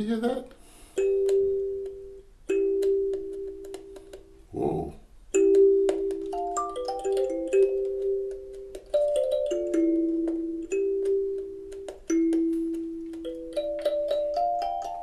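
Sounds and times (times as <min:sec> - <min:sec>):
kalimba melody: 0:01.0 - 0:04.4, 0:05.3 - 0:15.0.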